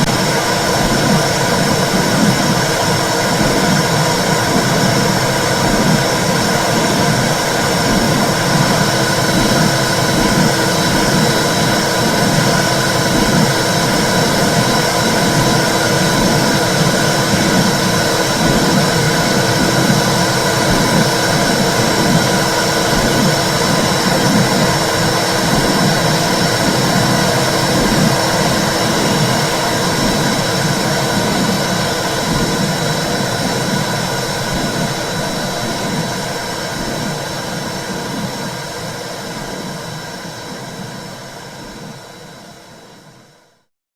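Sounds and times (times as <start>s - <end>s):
low pulsing beat: 0.0s - 42.0s.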